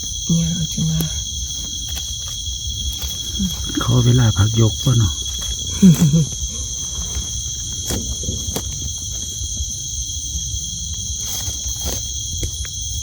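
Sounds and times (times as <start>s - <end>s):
low rumble: 0.0s - 12.8s
night insects chorus: 0.0s - 13.0s.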